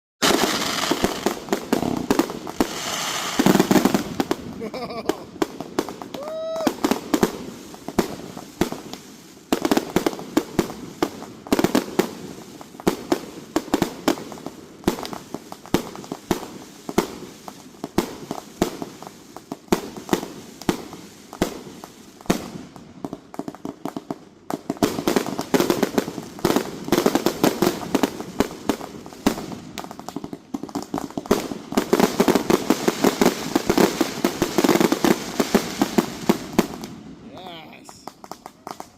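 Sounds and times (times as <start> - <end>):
firework cakes firing: 0.2 - 38.9.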